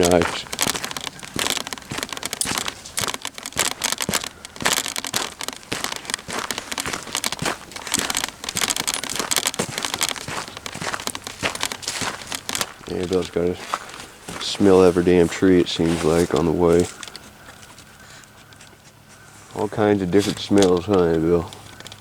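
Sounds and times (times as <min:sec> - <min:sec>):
footsteps crunching dry leaves: 0:00.0 - 0:22.0.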